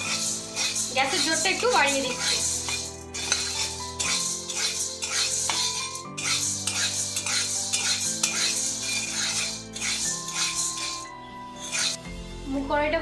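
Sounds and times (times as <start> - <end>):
spatula scraping roasting beans: 0.0 - 12.1.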